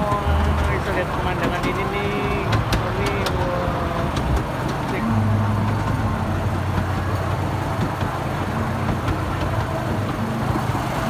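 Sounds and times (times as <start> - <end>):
train engine humming: 0.0 - 11.0.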